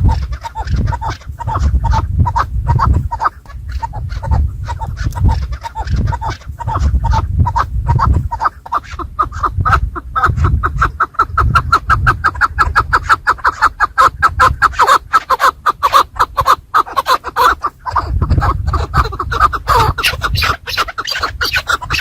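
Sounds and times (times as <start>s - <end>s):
partridge calling chuck notes: 0.0s - 22.0s.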